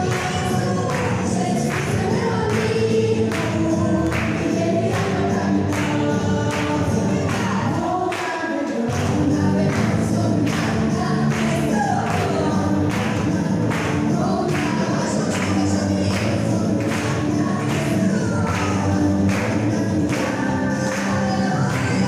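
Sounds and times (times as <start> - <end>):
choir singing gospel song: 0.0 - 22.0.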